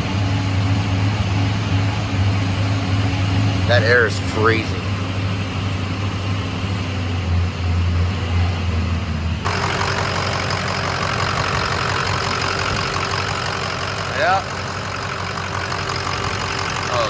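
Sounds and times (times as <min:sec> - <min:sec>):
diesel engine idling: 0:00.0 - 0:17.0
high steady hums: 0:00.0 - 0:17.0.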